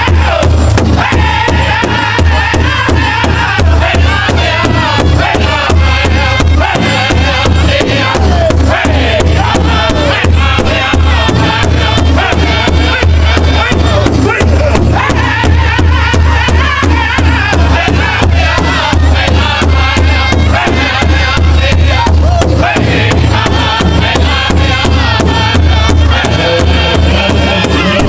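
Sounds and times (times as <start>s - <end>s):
large drum beaten fast: 0.0s - 28.0s
men singing in unison: 0.0s - 28.0s.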